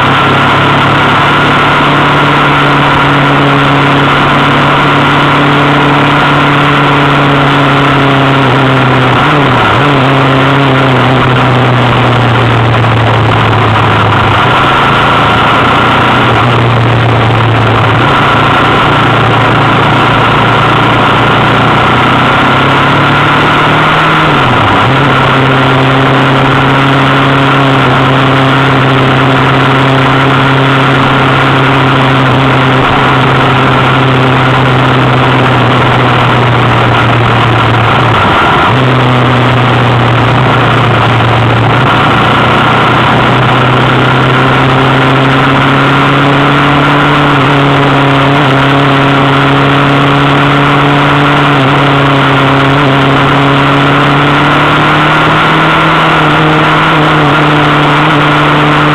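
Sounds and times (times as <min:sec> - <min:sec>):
road and wind noise: 0:00.0 - 0:58.9
vehicle engine running: 0:00.0 - 0:58.9.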